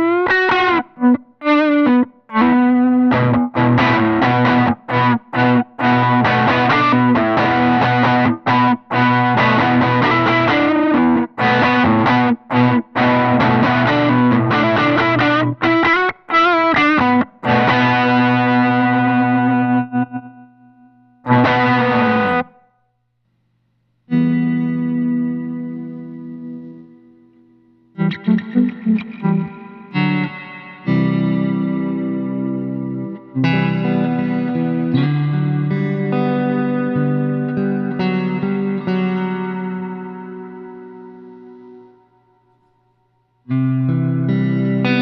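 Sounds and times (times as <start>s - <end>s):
distorted electric guitar chords: 0.0s - 22.8s, 24.1s - 45.0s.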